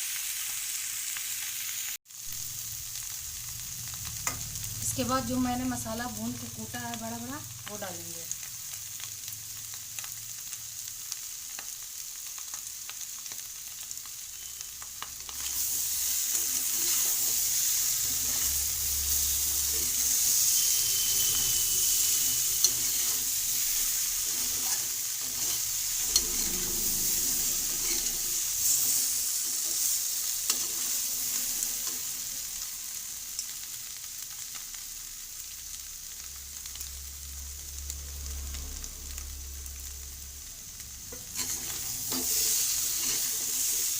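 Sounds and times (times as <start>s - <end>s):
potatoes sizzling in a pan: 0.0s - 43.9s.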